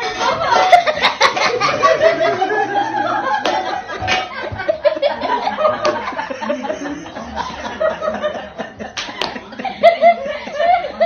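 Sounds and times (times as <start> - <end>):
people laughing: 0.0 - 11.0
people talking: 0.0 - 11.0.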